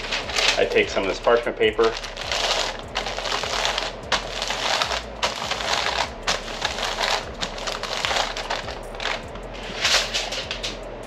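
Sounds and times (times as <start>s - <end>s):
parchment paper crinkling: 0.0s - 10.8s.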